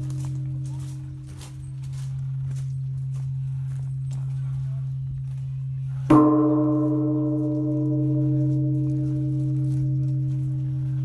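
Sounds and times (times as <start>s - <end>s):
steady low hum: 0.0s - 11.0s
temple bell ringing: 0.0s - 11.0s.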